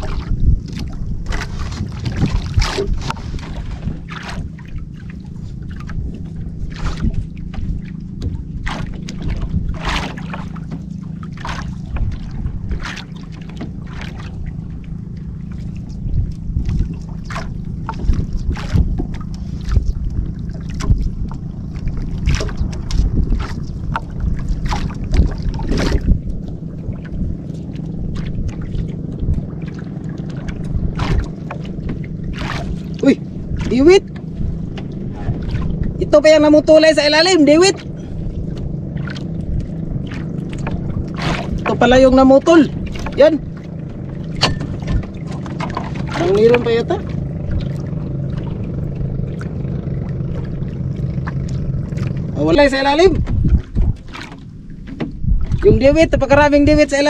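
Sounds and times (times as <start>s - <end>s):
line knocking against hull: 0.0s - 56.8s
steady low hum: 0.0s - 56.9s
wind: 0.0s - 57.0s.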